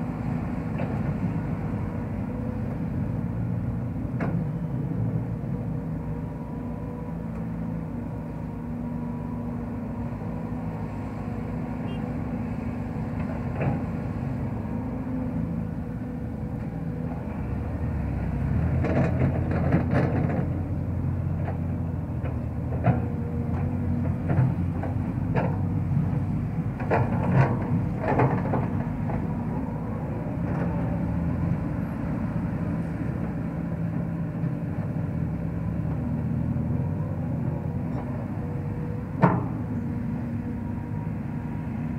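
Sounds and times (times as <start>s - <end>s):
excavator diesel engine: 0.0s - 41.9s.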